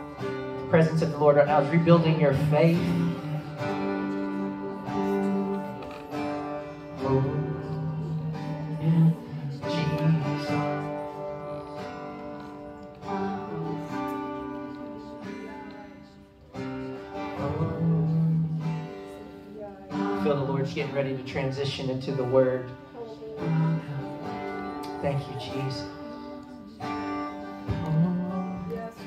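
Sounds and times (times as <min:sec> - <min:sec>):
acoustic guitar strumming chords: 0:00.0 - 0:29.0.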